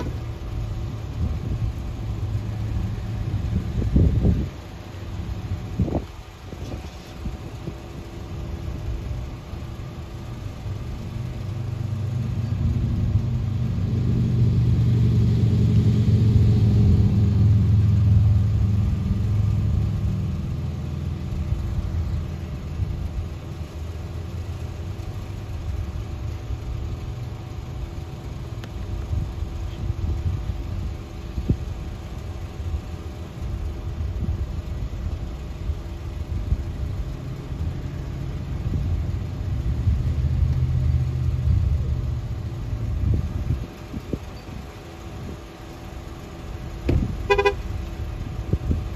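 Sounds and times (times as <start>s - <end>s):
low engine rumble: 0.0s - 48.9s.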